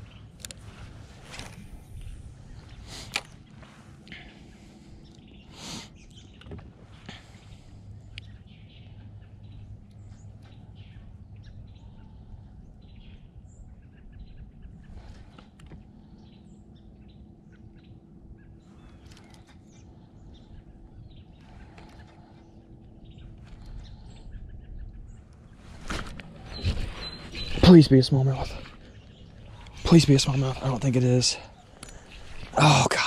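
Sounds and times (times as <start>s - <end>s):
birds chirping: 0.0s - 33.0s
faint low hum: 0.0s - 33.0s.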